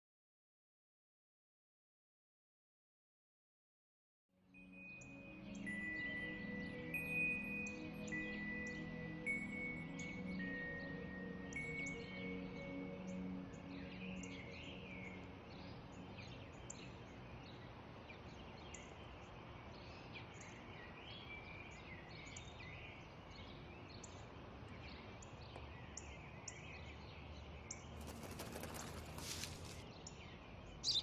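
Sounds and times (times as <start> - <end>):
faint outdoor hiss: 4.5 - 31.0
small birds chirping: 4.8 - 31.0.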